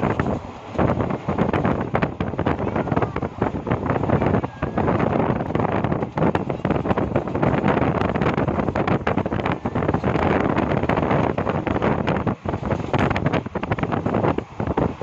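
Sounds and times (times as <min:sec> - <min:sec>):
train running on track: 0:00.0 - 0:15.0
wind buffeting microphone: 0:00.0 - 0:15.0.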